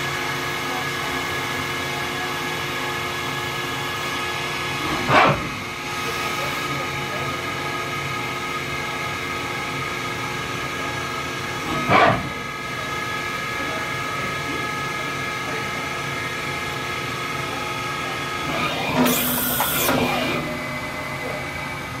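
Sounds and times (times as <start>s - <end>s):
cnc machine humming with tones: 0.0s - 22.0s.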